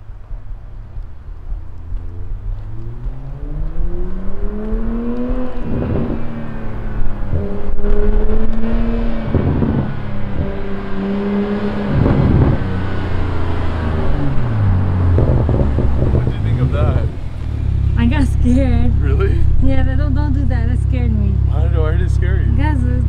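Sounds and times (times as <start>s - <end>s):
car engine accelerating hard: 0.9s - 23.0s.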